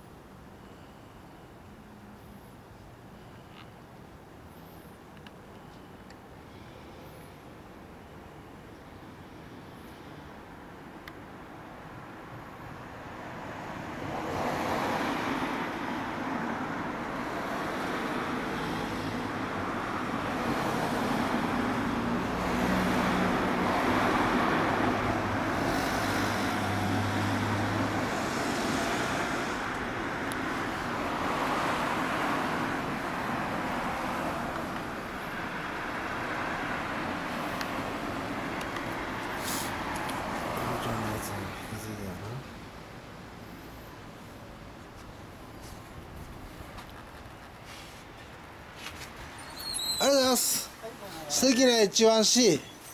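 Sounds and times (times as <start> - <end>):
road traffic passing: 0.0 - 52.9.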